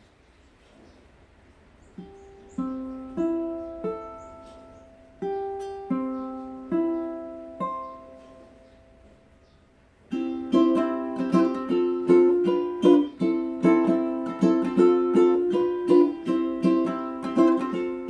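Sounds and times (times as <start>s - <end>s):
strummed chords: 2.0s - 9.5s, 10.1s - 18.0s
plucked string notes ringing: 2.0s - 18.0s.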